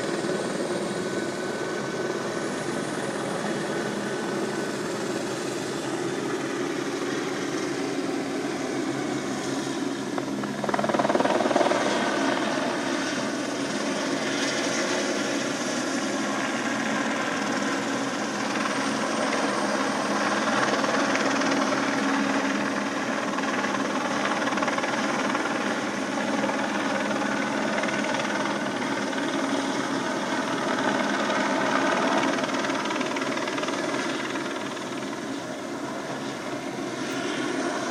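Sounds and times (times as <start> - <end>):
helicopter rotor and turbine: 0.0 - 37.9.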